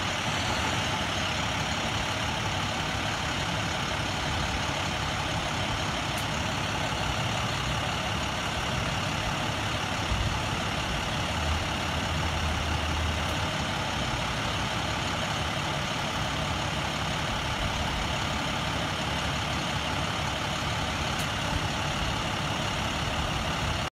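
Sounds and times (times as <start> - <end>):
heavy truck engine idling: 0.0 - 23.9.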